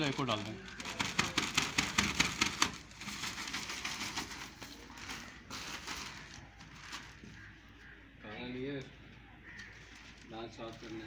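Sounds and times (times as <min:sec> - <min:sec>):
plastic sack crinkling: 0:00.0 - 0:07.6, 0:09.7 - 0:11.0.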